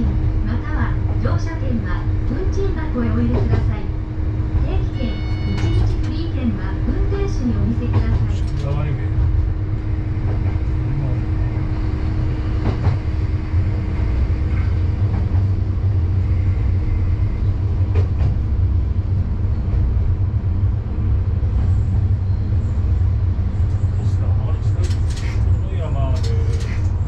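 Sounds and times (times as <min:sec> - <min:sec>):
railcar engine and wheels rumbling: 0:00.0 - 0:27.0.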